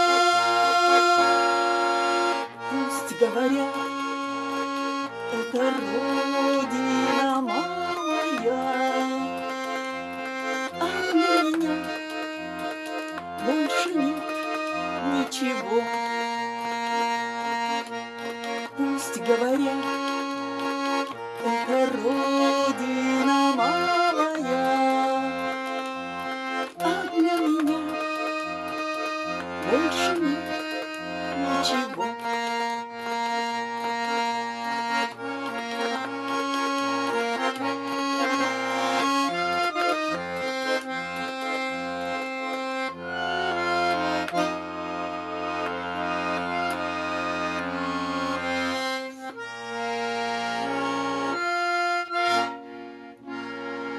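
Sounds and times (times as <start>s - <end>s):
button accordion playing: 0.0s - 53.9s.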